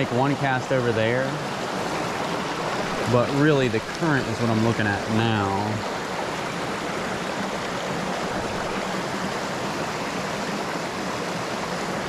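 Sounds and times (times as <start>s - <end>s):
water rushing over stones: 0.0s - 12.0s.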